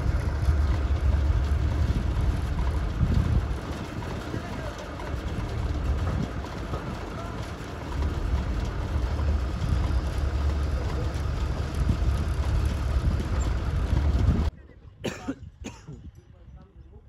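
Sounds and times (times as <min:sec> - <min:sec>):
engine running with low rumble: 0:00.0 - 0:17.0.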